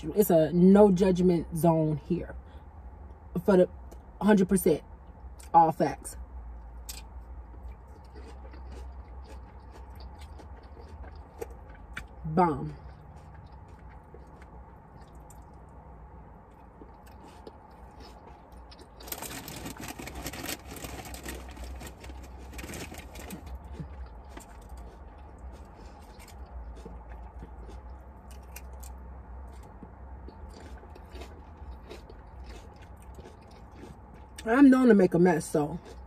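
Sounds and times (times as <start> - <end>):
steady low hum: 0.0 - 36.0
food crinkling and chewing: 6.6 - 36.0.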